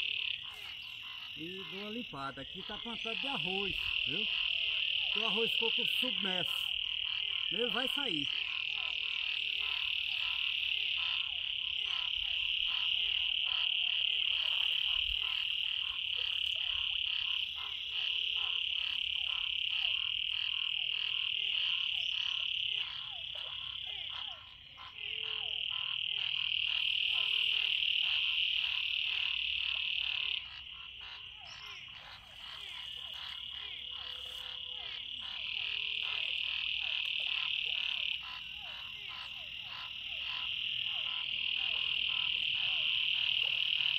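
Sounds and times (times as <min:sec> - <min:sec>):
frogs trilling: 0:00.0 - 0:43.9
short frog calls: 0:00.0 - 0:43.9.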